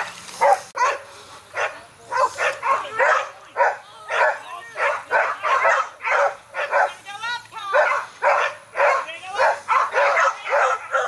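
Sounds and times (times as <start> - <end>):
dog barking: 0.0 - 7.0, 7.7 - 11.0.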